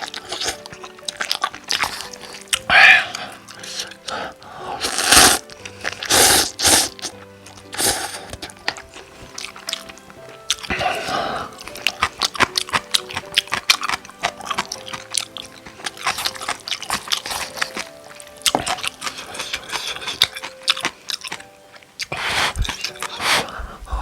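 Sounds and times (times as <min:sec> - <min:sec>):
chewing and slurping noodles: 0:00.0 - 0:24.0
soft background music: 0:00.0 - 0:24.0.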